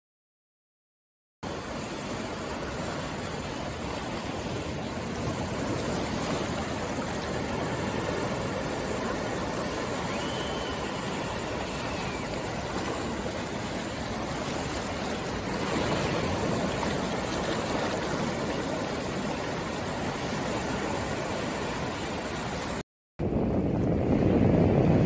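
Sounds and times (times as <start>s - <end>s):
sea surf washing in: 1.4s - 25.0s.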